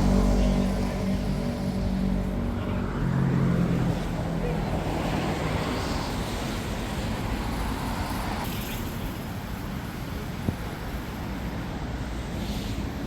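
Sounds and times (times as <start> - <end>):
passing vehicles: 0.0 - 13.0.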